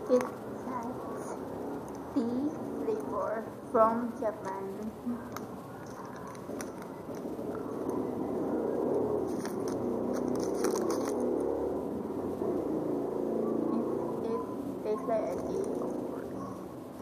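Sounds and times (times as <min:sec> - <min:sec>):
sharp crackles: 0:00.0 - 0:12.8, 0:14.5 - 0:17.0.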